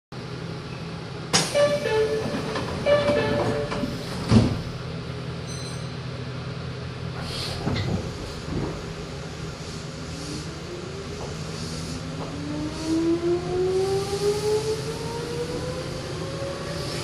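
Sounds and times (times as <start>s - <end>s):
train low hum: 0.2s - 17.0s.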